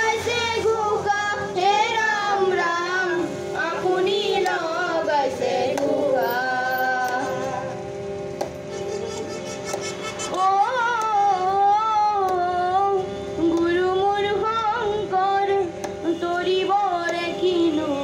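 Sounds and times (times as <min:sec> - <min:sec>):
woman singing into a microphone: 0:00.0 - 0:07.7, 0:10.3 - 0:18.0
harmonium: 0:00.0 - 0:18.0.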